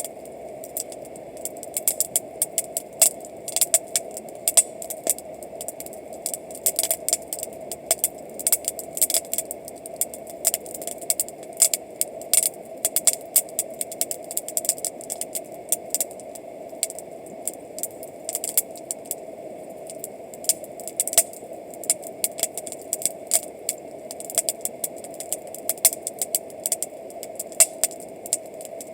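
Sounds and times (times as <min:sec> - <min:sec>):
campfire crackling: 0:00.0 - 0:28.9.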